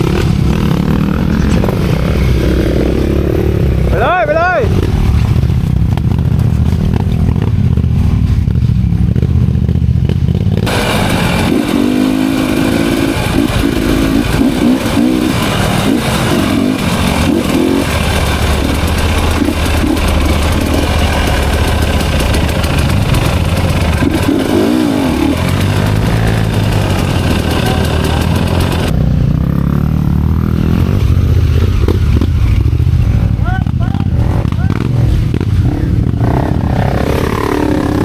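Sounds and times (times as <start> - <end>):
clatter: 0.0 - 4.0, 4.7 - 33.4, 34.2 - 38.0
dirt bike engine revving: 0.0 - 38.0.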